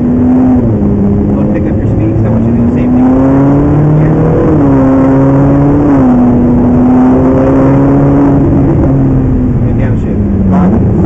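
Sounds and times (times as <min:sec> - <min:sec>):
car engine running loud: 0:00.0 - 0:11.0.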